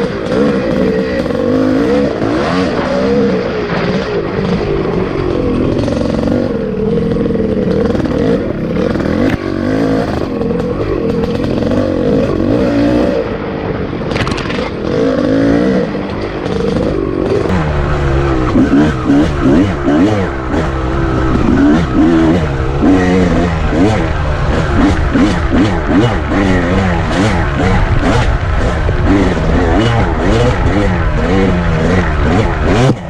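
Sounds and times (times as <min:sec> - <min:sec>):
two-stroke dirt bike engine revving: 0:00.0 - 0:33.0.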